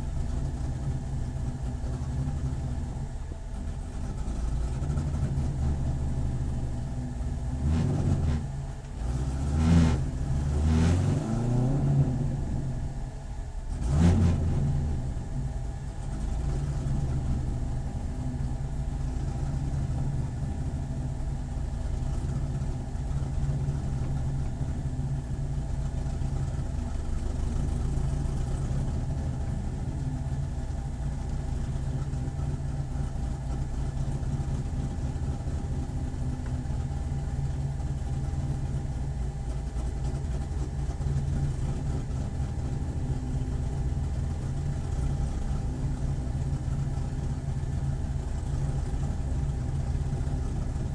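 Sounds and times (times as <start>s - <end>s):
racecar engine running: 0.0s - 50.9s.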